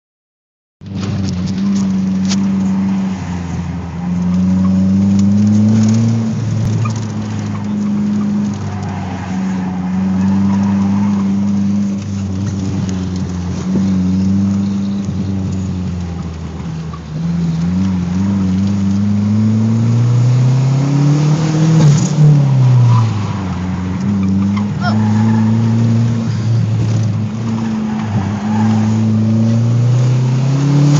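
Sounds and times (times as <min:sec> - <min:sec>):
car engine accelerating: 0:00.8 - 0:30.9.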